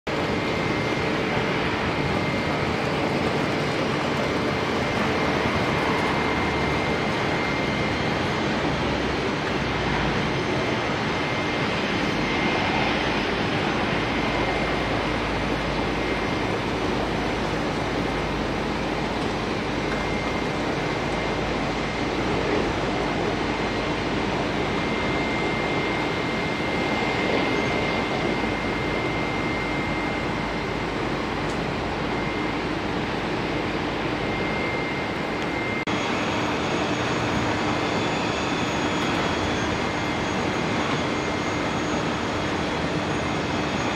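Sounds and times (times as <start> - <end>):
turboprop engines droning: 0.1 - 43.9.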